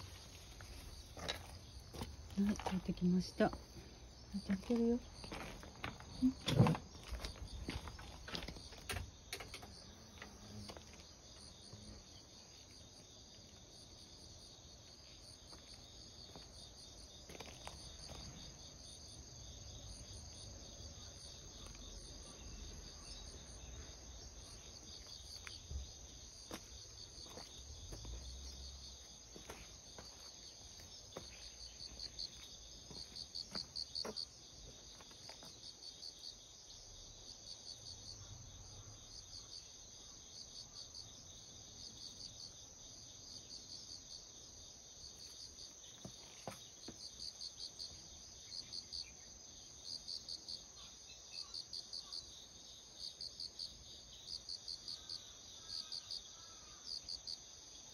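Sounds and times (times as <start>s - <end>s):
insects trilling: 0.0s - 57.9s.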